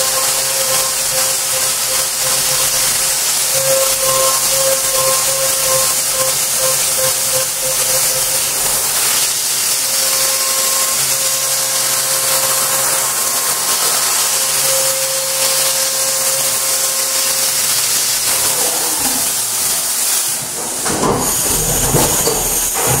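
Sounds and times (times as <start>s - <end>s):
high whine of spinning cutter: 0.0s - 23.0s
milling machine hiss: 0.0s - 23.0s.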